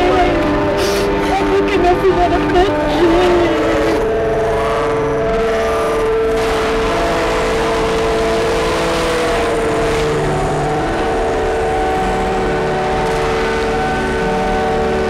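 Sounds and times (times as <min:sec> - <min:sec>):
synthesizer drone: 0:00.0 - 0:15.0.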